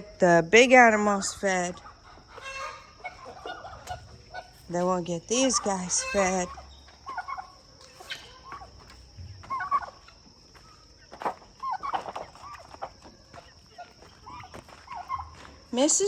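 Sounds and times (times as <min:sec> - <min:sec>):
turkeys calling and clucking: 0:00.7 - 0:16.0.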